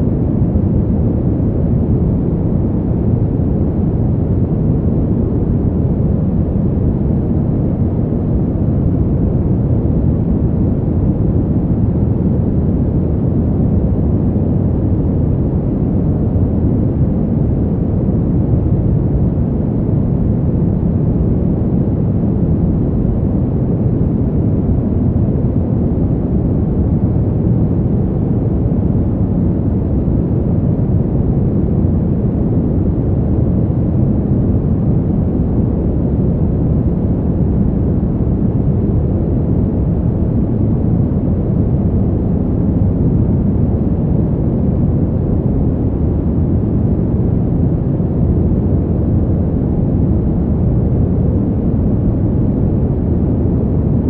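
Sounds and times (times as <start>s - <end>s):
deep rumbling brown noise: 0.0s - 54.0s.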